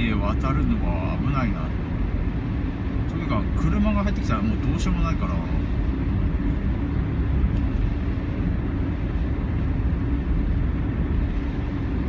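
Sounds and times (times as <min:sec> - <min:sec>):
low rumble of tunnel air: 0:00.0 - 0:12.0.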